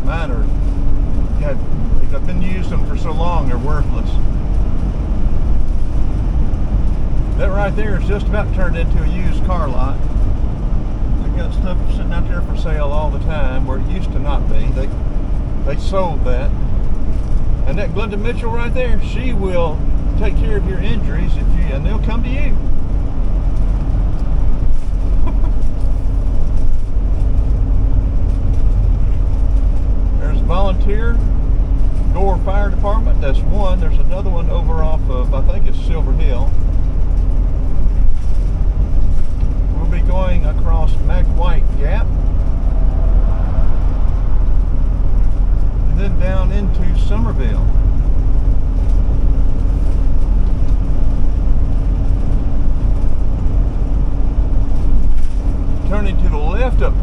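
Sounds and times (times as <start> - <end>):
motorhome driving rumble: 0.0 - 57.0
vehicle engine and road noise: 0.0 - 57.0.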